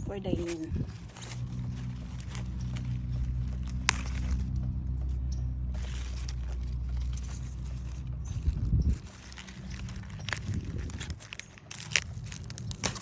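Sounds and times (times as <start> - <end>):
low engine hum: 0.0 - 13.0
rustling: 0.0 - 13.0.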